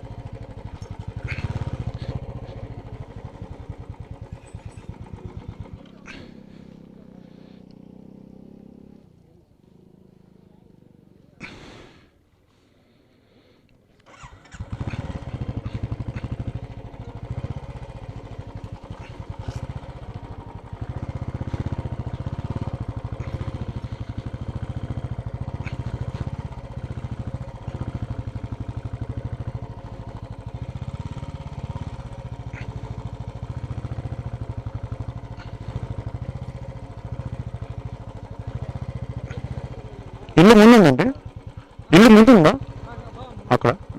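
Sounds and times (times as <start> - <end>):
motorcycle engine running: 0.0 - 12.0, 12.9 - 43.9.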